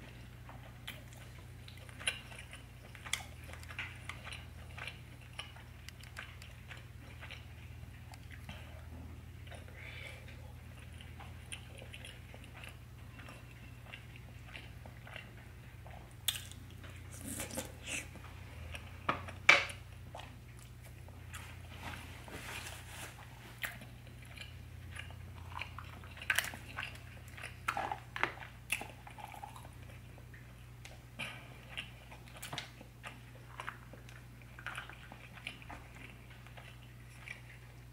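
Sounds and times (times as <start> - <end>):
chewing and mouth smacks: 0.0 - 22.0, 23.1 - 37.9.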